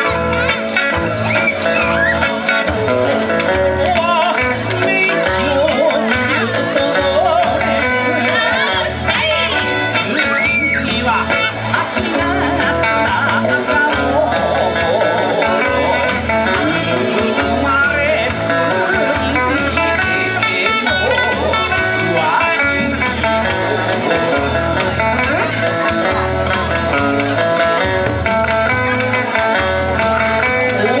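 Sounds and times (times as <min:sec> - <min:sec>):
plucked guitar melody: 0:00.0 - 0:31.0
steady drum beat: 0:00.0 - 0:31.0.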